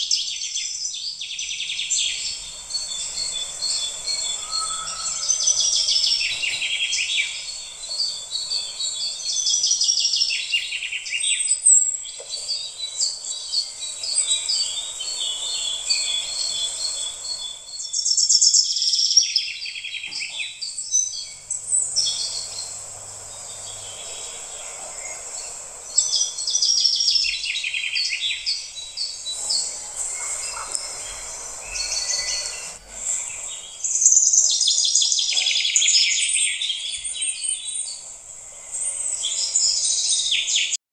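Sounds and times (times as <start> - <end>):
soft hiss: 0.0 - 40.8
songbirds trilling: 0.0 - 40.8.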